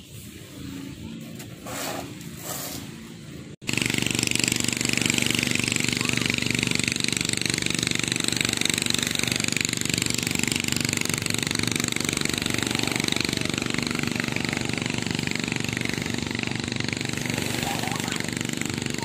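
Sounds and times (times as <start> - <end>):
engine pulsing: 3.4 - 19.0.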